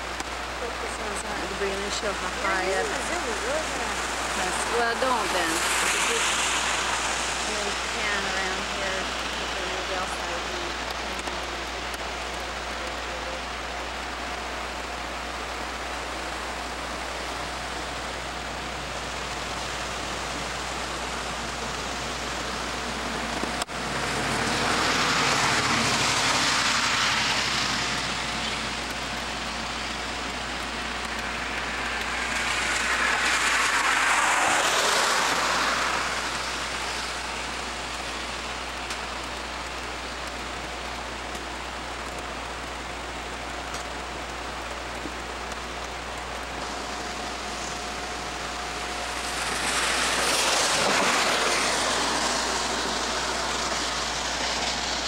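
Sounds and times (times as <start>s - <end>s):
tyre hiss on wet road: 0.0s - 13.3s, 13.9s - 55.0s
steady hiss: 0.0s - 55.0s.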